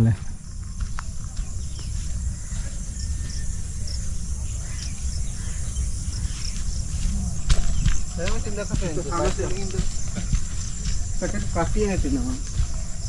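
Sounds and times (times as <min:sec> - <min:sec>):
insects shrilling: 0:00.4 - 0:13.0.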